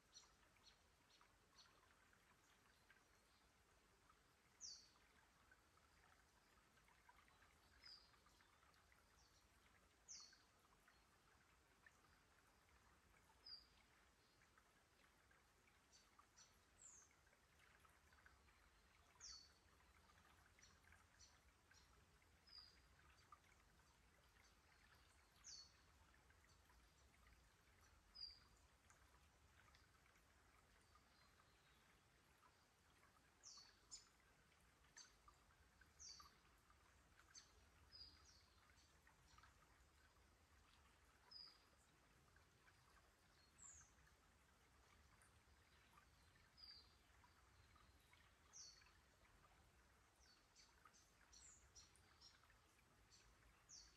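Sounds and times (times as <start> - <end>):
creek trickling: 0.0 - 53.9.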